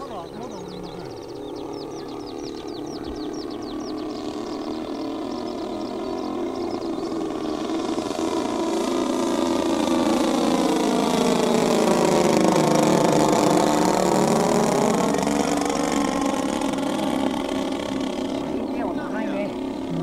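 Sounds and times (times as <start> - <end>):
model airplane engines running: 0.0 - 20.0.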